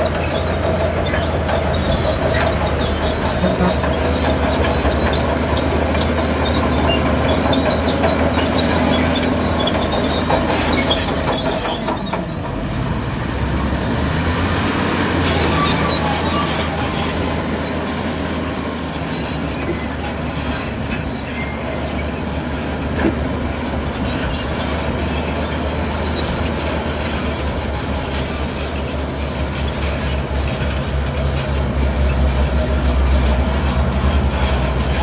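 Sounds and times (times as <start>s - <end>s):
machinery clatter: 0.0s - 14.3s, 15.0s - 35.0s
heavy diesel machinery rumbling: 0.0s - 35.0s.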